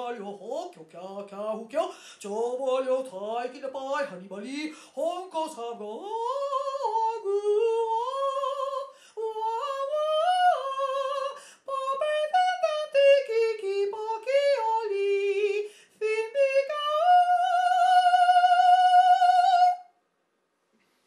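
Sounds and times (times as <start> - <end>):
woman singing into microphone: 0.0 - 19.8.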